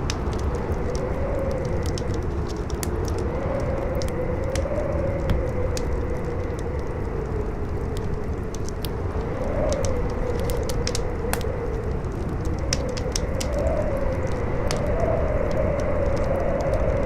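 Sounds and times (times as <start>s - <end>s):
campfire crackling and popping: 0.0s - 17.0s
howling wind: 0.0s - 17.0s
strong wind rumbling: 0.0s - 17.0s.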